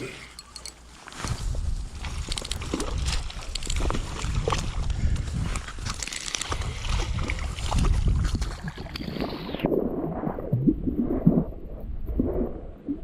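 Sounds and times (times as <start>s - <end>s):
wind rumbling on microphone: 1.1s - 13.0s
water splashing and gurgling: 1.4s - 13.0s.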